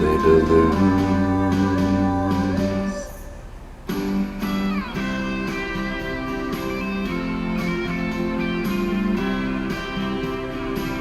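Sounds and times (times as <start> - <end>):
pop backing track with guitar: 0.0 - 11.0.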